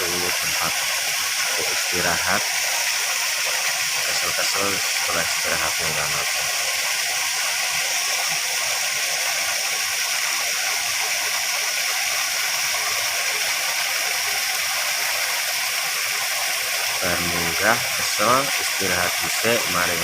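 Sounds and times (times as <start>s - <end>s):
waterfall hissing: 0.0s - 20.0s.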